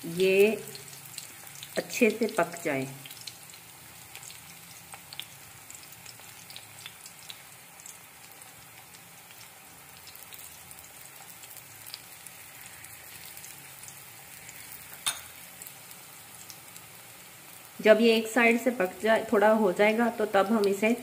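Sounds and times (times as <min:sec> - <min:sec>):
batter sizzling with crackling pops: 0:00.0 - 0:21.0.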